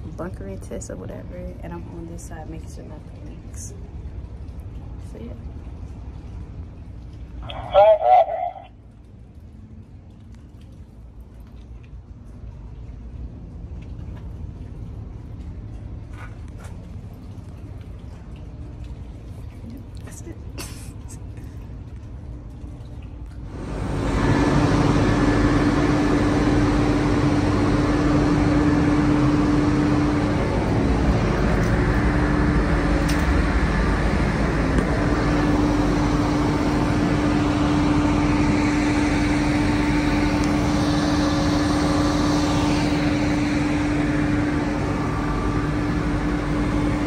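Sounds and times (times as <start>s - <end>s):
ship deck machinery droning: 0.0s - 11.3s, 12.4s - 47.0s.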